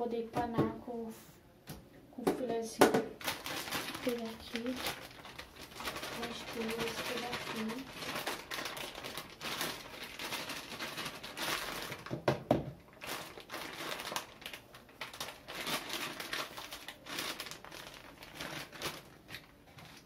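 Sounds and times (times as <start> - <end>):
plastic bag crinkling: 3.2 - 20.0.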